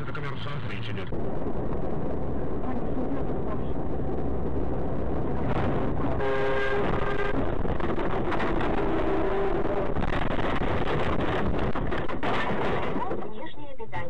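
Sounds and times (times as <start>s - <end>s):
driving rumble and tyre noise: 0.0s - 14.0s.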